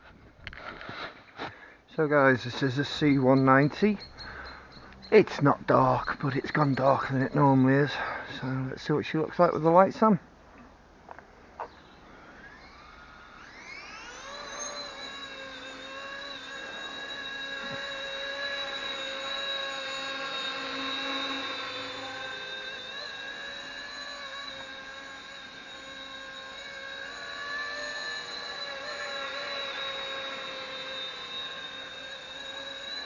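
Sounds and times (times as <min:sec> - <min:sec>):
model helicopter rotors whining: 0:02.0 - 0:10.1, 0:11.6 - 0:33.0.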